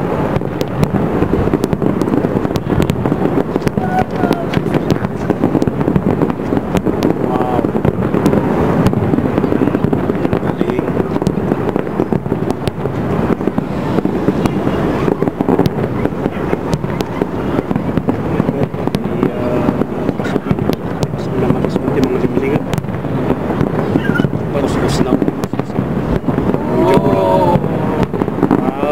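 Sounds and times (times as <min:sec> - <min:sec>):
firework pops and crackles: 0:00.0 - 0:28.9
rumble of firework booms: 0:00.0 - 0:28.9.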